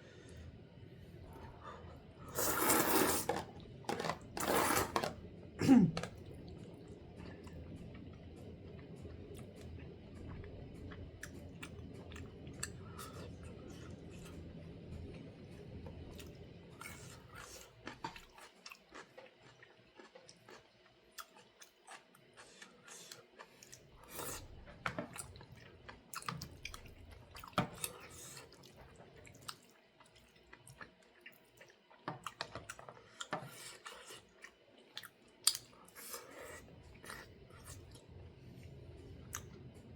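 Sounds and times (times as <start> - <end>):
low steady hum: 0.0 - 18.5, 22.4 - 39.9
person chewing food: 6.0 - 39.8.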